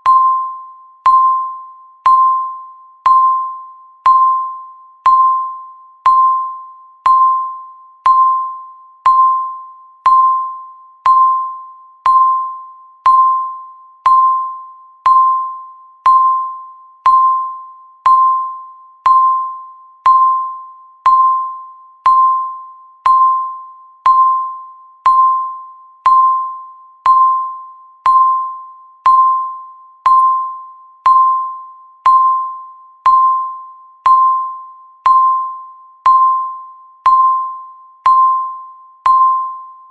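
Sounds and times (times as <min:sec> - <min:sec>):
timer ticking ping: 0:00.0 - 0:39.9.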